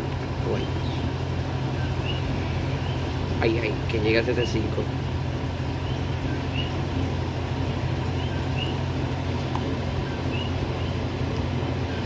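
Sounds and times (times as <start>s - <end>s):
electric fan humming: 0.0s - 12.0s.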